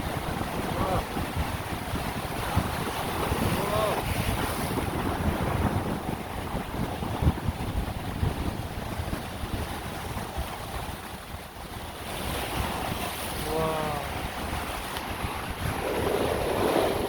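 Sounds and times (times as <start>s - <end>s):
waves washing on shore: 0.0s - 17.0s
wind buffeting microphone: 0.0s - 17.0s.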